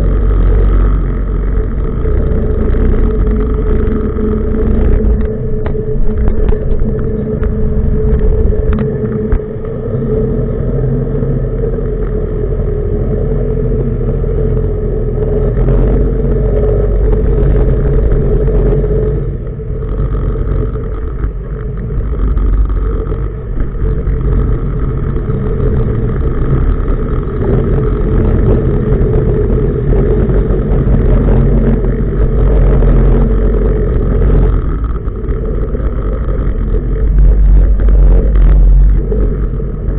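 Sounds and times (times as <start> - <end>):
diesel engine low rumble: 0.0 - 39.9.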